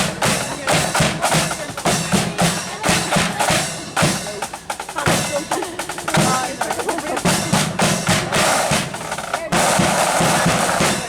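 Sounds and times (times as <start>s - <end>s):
snare and bass drums: 0.0s - 11.0s.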